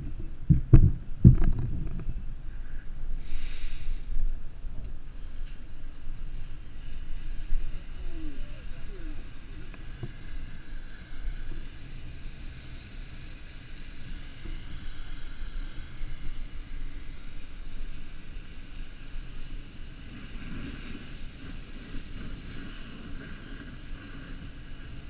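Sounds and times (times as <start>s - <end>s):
wind buffeting microphone: 0.0s - 25.0s
fire hose spray hissing: 3.1s - 25.0s.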